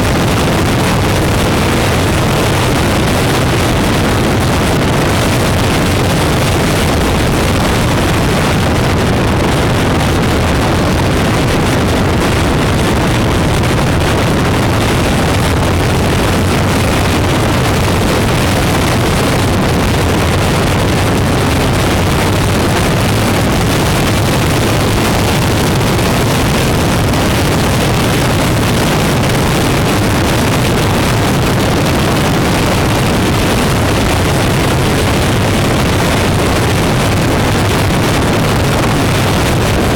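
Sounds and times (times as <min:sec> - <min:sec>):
motorcycle engine rumble: 0:00.0 - 0:39.9
wind rush over microphone: 0:00.0 - 0:39.9.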